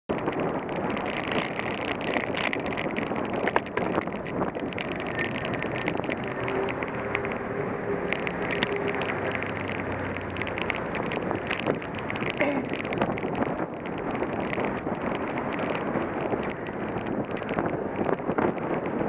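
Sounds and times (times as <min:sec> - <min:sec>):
road noise: 0:00.1 - 0:19.0
small clicks and rattles: 0:00.1 - 0:19.0
wind rushing over microphone: 0:00.1 - 0:19.0.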